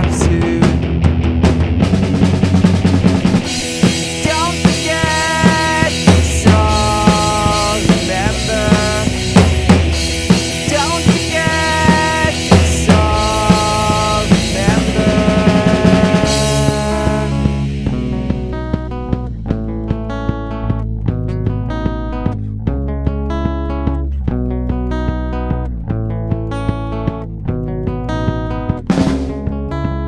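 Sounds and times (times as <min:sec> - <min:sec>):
bass: 0:00.0 - 0:30.0
drum kit beat: 0:00.0 - 0:30.0.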